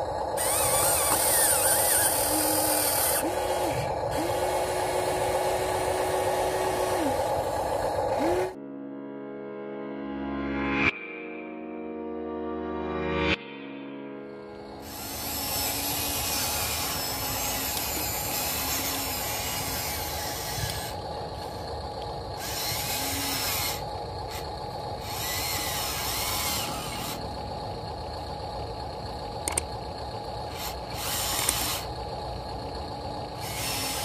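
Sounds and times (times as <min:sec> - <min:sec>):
small electric motors whirring: 0:00.0 - 0:08.6, 0:14.8 - 0:34.0
steady hum: 0:00.0 - 0:08.6, 0:14.5 - 0:34.0.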